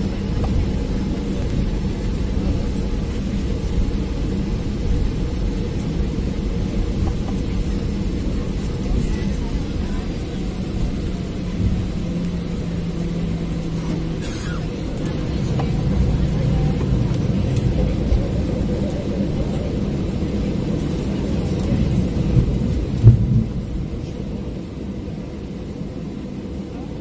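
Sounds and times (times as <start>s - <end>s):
airliner cabin rumble taxiing: 0.0s - 27.0s.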